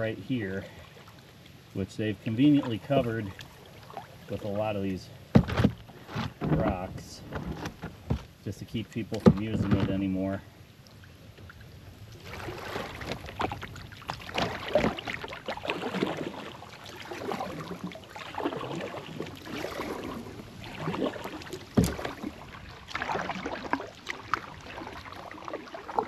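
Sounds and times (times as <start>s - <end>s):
kayak paddle splashing: 0.0s - 26.0s.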